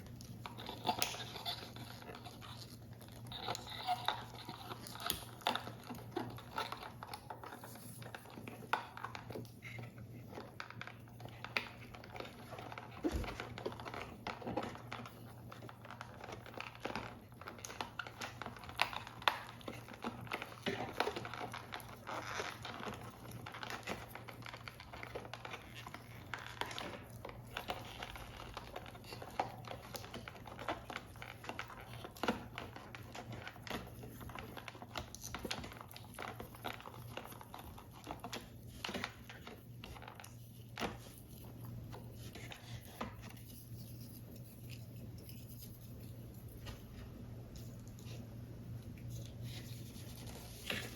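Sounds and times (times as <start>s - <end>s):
paper crinkling and rustling: 0.0s - 50.9s.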